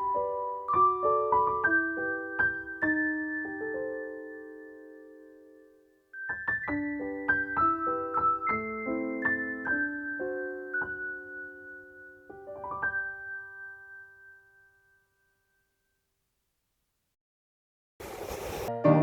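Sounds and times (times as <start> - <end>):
gentle piano music: 0.0 - 15.4.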